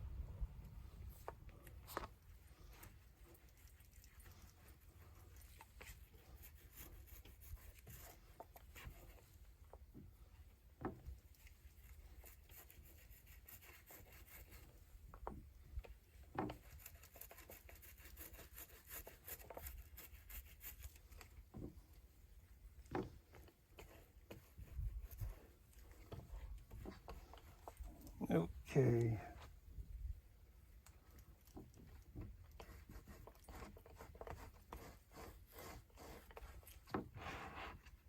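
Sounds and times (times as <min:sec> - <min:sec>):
faint rubbing and scratching: 0:00.0 - 0:38.0.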